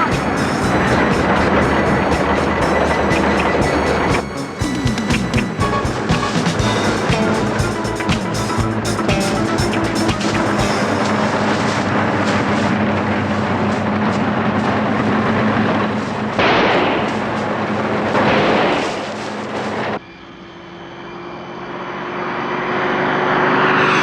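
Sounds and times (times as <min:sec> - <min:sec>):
harvester engine and machinery: 0:00.0 - 0:23.7.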